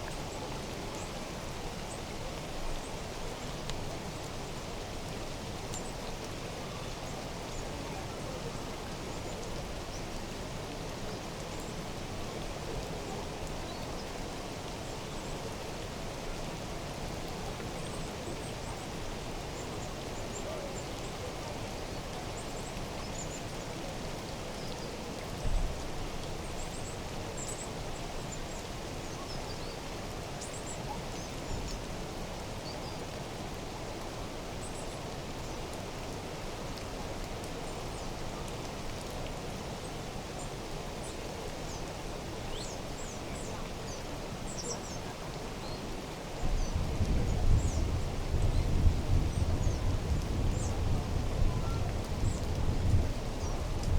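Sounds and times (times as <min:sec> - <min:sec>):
running water hiss: 0:00.0 - 0:53.9.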